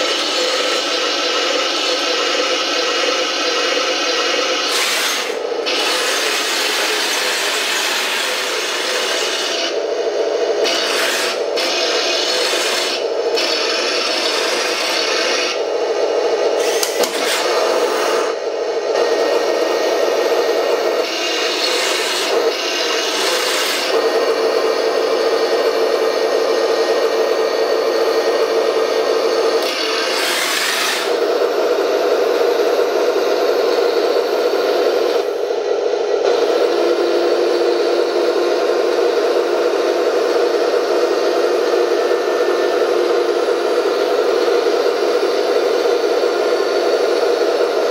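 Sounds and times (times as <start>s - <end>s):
model tank motors whining: 0.0s - 47.9s.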